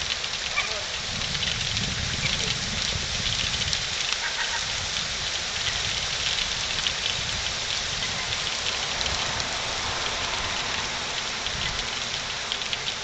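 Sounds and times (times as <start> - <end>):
hail pattering on hard surfaces: 0.0 - 13.0.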